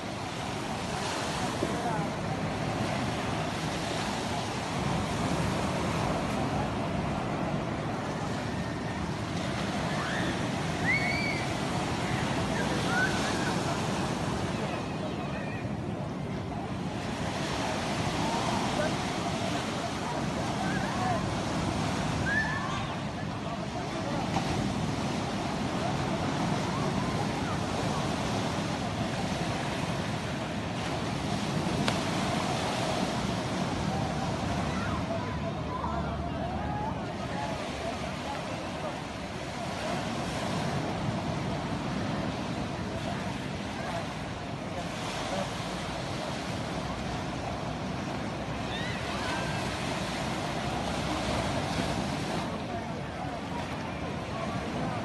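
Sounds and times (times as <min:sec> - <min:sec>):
sea waves washing onto shore: 0:00.0 - 0:55.0
wind: 0:00.0 - 0:55.0.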